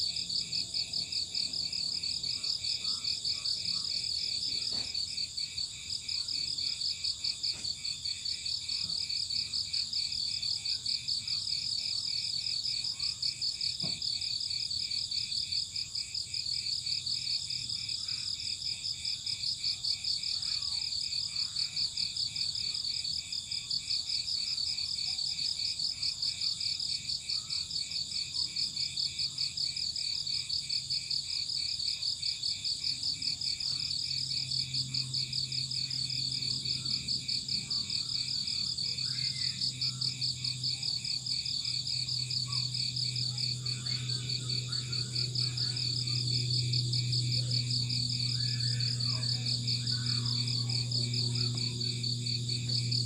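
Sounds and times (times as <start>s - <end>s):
crickets chirping: 0.0s - 53.0s.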